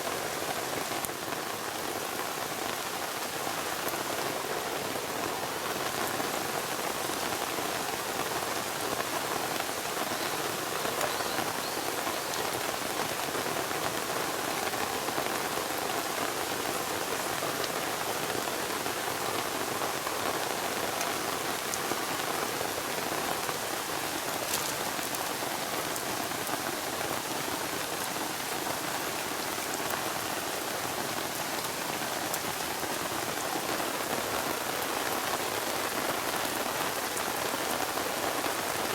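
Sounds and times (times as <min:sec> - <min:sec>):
steady rain in a forest: 0:00.0 - 0:38.9.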